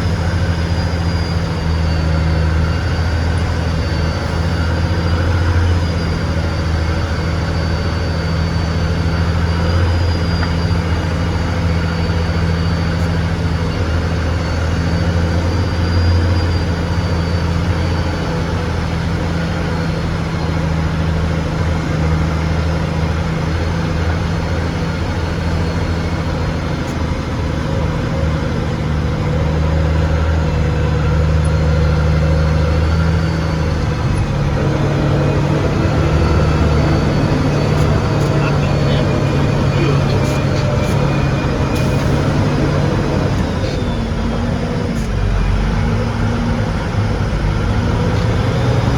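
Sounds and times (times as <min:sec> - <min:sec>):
truck engine droning: 0:00.0 - 0:48.9.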